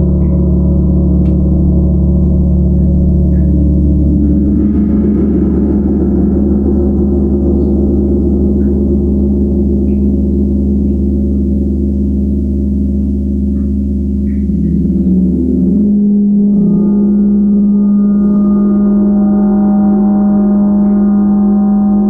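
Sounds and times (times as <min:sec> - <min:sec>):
gong resonating: 0:00.0 - 0:22.0.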